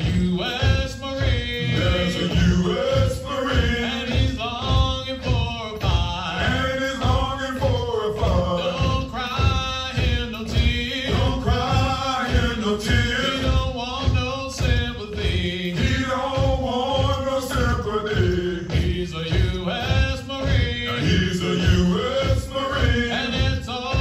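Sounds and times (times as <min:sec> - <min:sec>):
men chanting marching cadence: 0:00.0 - 0:24.0
steady low beat: 0:00.0 - 0:24.0.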